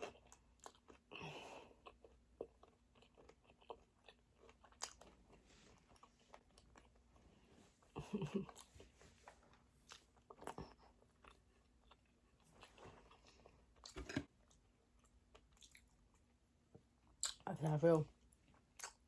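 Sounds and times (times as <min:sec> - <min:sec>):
chewing and biting food: 0:00.0 - 0:16.4, 0:18.2 - 0:19.0.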